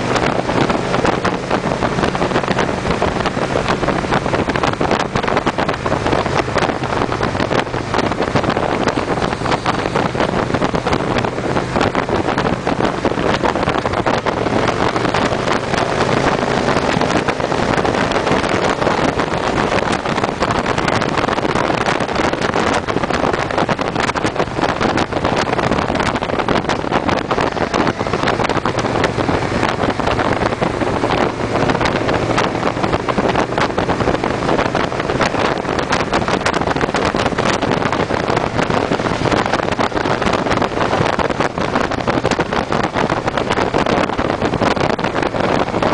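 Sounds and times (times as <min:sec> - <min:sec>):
motorcycle engines running: 0:00.0 - 0:45.9
wind rushing over microphone: 0:00.0 - 0:45.9.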